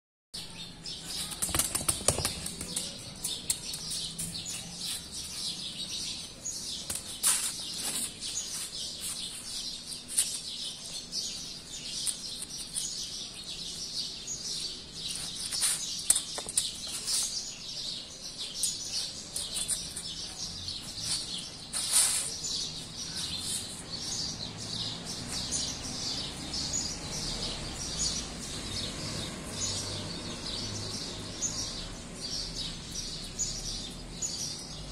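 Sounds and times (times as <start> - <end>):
small birds chirping: 0.4 - 34.9.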